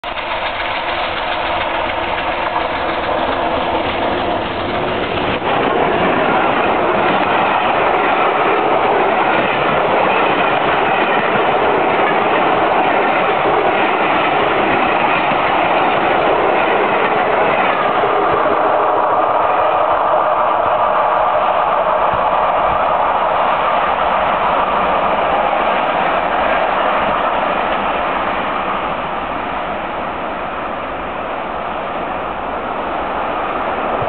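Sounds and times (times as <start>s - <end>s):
steam train passing at speed: 0.0s - 34.0s
wheel and rail noise: 0.0s - 34.0s.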